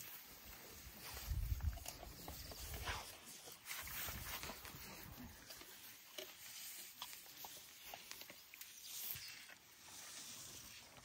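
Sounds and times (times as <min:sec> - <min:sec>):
elephant calf chewing on a hand: 0:00.0 - 0:11.0.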